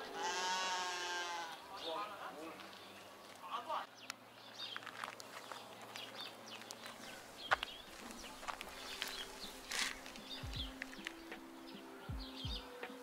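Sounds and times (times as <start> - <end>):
small birds chirping: 1.2 - 13.0.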